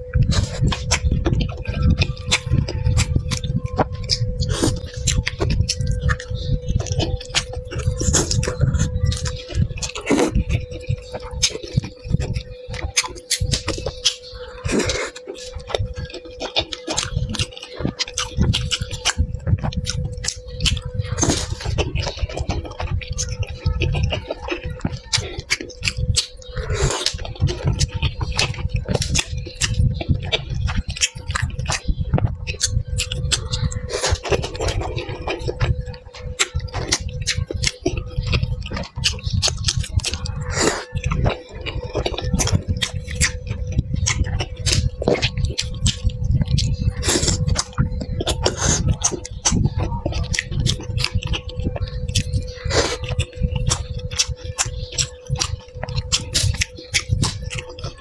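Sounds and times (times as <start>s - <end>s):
person chewing wetly: 0.0s - 58.0s.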